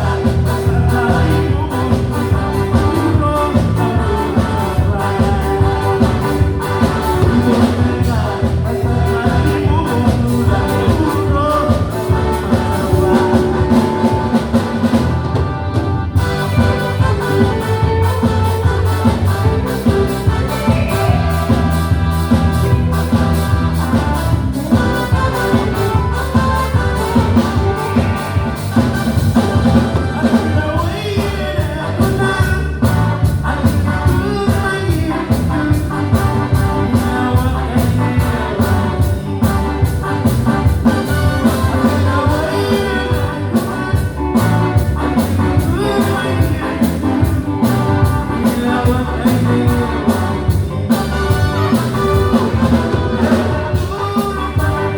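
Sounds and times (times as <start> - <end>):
live band playing: 0.0 - 54.9.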